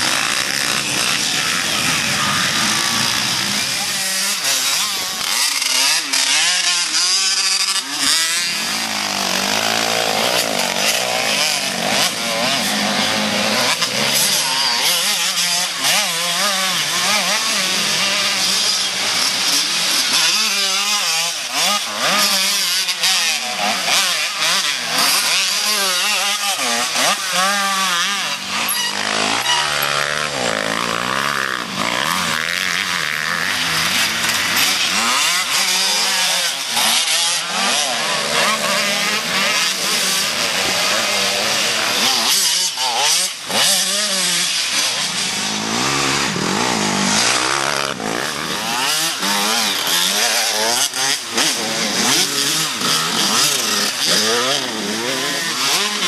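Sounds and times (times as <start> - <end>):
race engines revving: 0.0 - 56.0.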